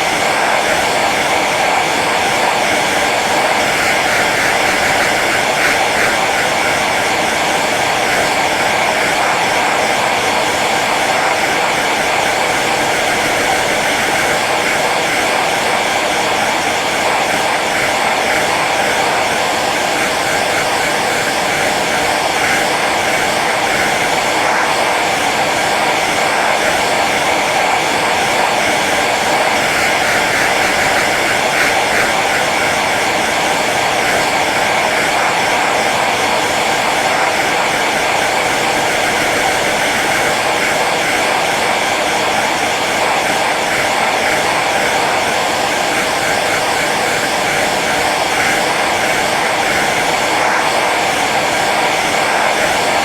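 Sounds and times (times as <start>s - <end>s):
hair dryer blowing: 0.0s - 53.0s.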